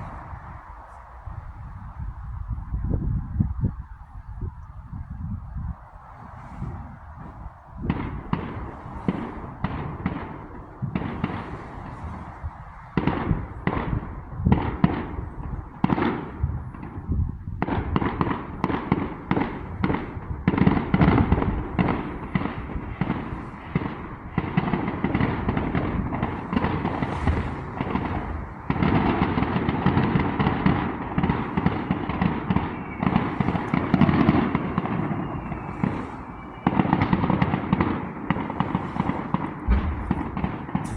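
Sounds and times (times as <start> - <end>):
fireworks bangs and crackles: 0.0 - 2.1, 6.1 - 40.9.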